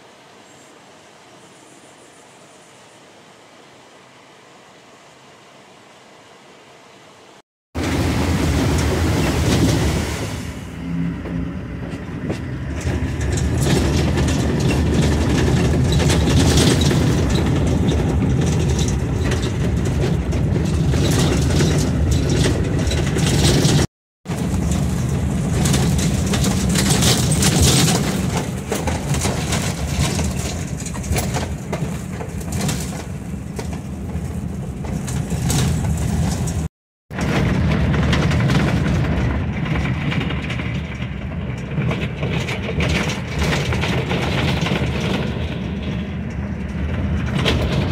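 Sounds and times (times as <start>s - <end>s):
engine and tyres rumbling: 0.0s - 47.9s.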